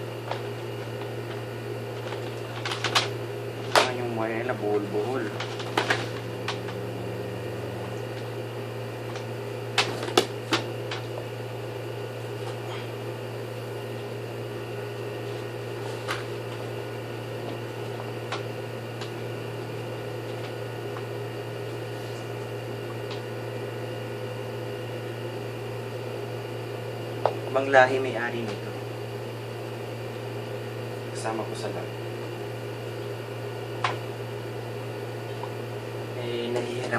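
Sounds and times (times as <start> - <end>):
electric hum: 0.0 - 36.9.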